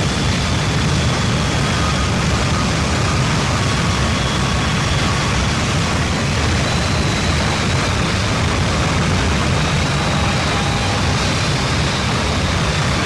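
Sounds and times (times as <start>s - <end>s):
heavy low rumble: 0.0s - 13.0s
loud static: 0.0s - 13.0s.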